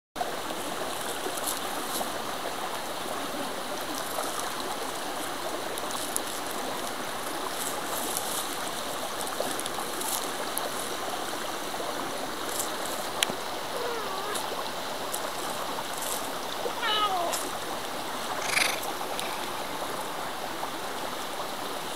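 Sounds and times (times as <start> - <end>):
stream water rushing: 0.2 - 21.9.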